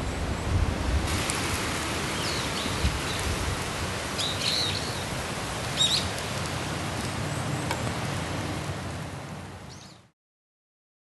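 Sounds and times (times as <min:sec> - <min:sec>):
wind rumbling on microphone: 0:00.0 - 0:09.6
rain hiss: 0:00.0 - 0:10.1.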